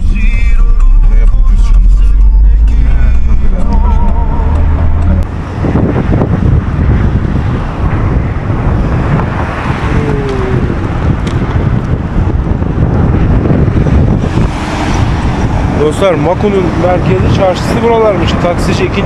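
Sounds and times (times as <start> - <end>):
road vehicles: 0.0 - 19.0
wind rumbling on microphone: 0.0 - 19.0.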